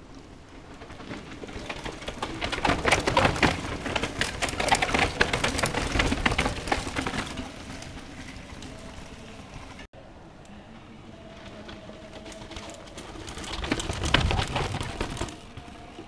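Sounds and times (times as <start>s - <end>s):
mountain bikes rattling over stones: 0.0s - 9.9s, 11.0s - 16.0s.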